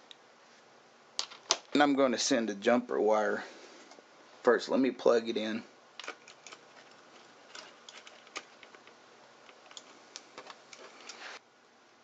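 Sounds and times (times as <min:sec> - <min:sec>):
faint hiss: 0:00.0 - 0:06.0, 0:06.6 - 0:12.0.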